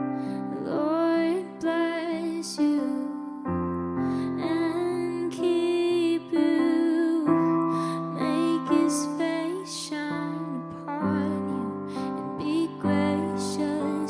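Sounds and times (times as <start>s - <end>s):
person singing: 0.0s - 14.0s
piano chords: 0.0s - 14.0s.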